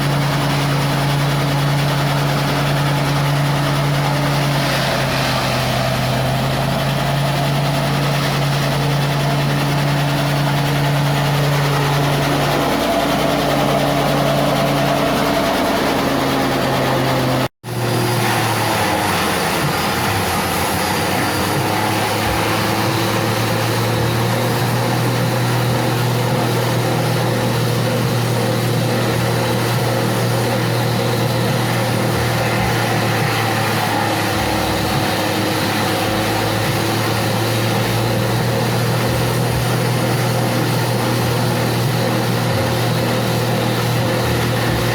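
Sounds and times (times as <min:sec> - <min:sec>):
chopper machine engine running: 0:00.0 - 0:44.9.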